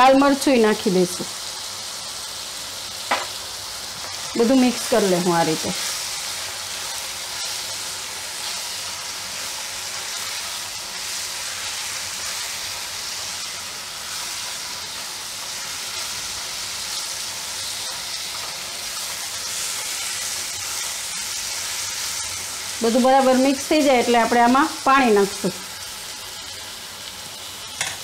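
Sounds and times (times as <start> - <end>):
vegetables sizzling in oil: 0.0 - 28.0.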